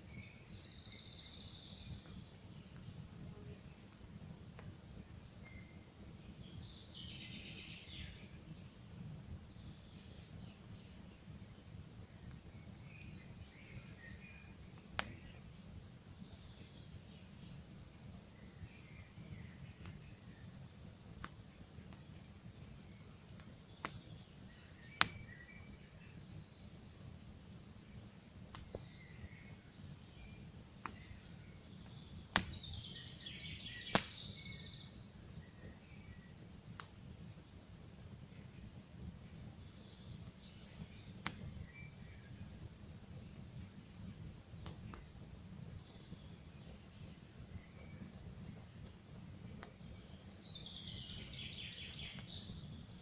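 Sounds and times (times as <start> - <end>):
small birds chirping: 0.0 - 53.0
campfire crackling and popping: 1.8 - 6.6, 8.1 - 53.0.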